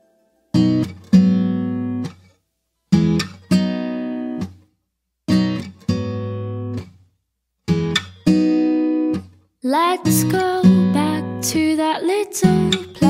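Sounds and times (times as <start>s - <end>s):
acoustic guitar strumming chords: 0.0s - 2.2s, 2.9s - 4.6s, 5.3s - 6.9s, 7.7s - 13.0s.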